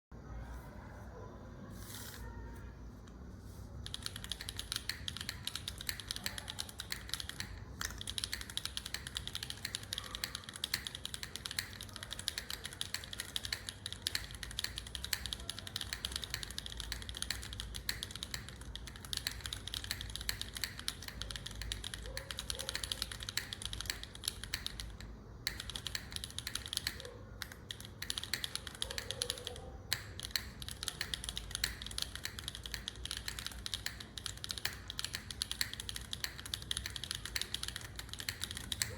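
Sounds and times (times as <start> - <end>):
fast mechanical keyboard typing: 3.8 - 38.9.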